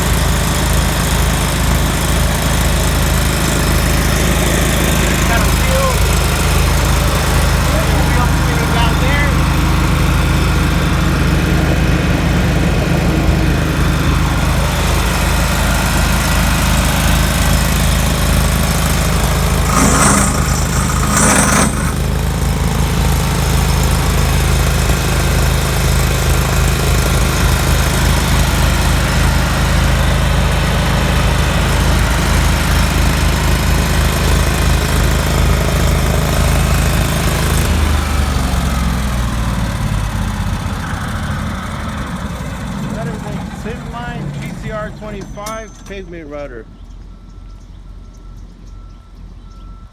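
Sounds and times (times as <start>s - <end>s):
gas engine running: 0.0s - 46.2s.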